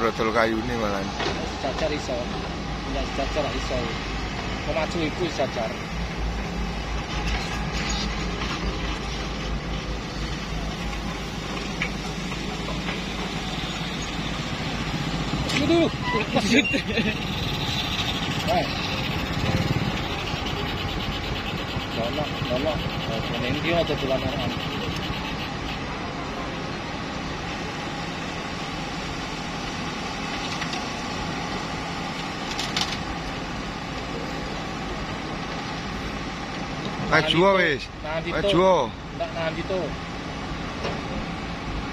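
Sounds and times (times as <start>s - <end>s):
continuous rushing noise: 0.0s - 41.9s
truck engine running: 0.0s - 41.9s.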